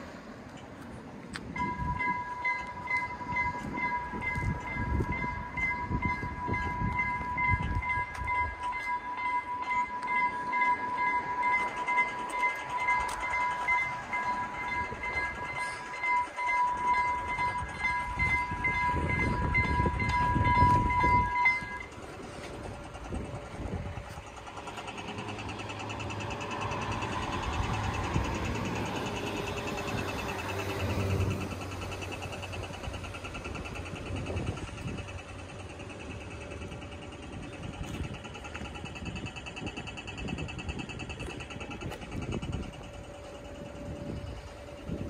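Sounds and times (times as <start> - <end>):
level crossing warning bell: 1.4 - 45.0.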